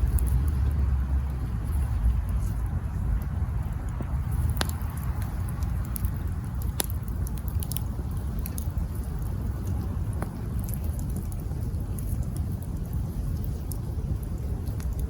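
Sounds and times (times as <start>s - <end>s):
campfire rumble: 0.0s - 15.0s
sharp fire pops: 0.0s - 15.0s
wood crackling: 0.0s - 15.0s.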